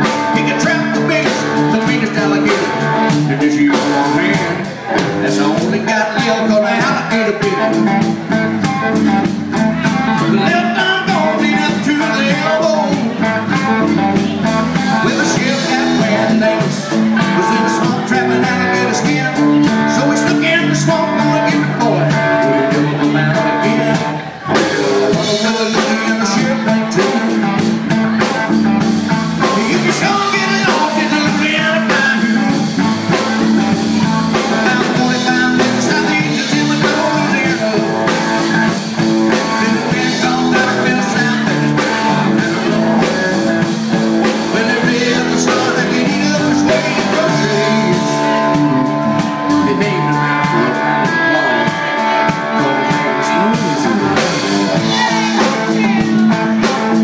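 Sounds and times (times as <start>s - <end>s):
drums keeping steady beat: 0.0s - 57.0s
live rock and roll band: 0.0s - 57.0s
person singing: 0.0s - 57.0s.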